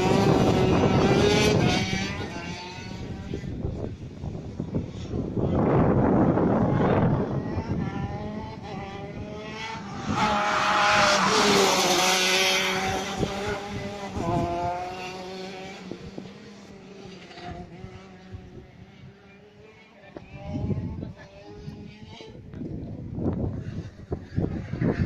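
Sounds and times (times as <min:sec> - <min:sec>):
go-kart engines racing: 0:00.0 - 0:25.0.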